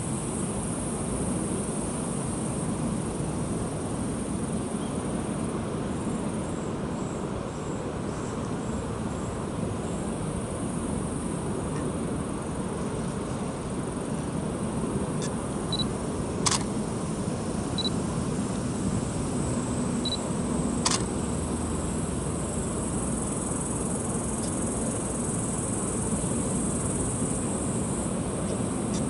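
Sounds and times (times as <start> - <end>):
high insect trill: 0.0 - 29.0.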